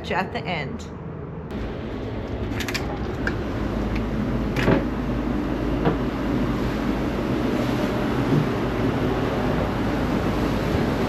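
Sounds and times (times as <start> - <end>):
ship engine low rumble: 0.0 - 11.0.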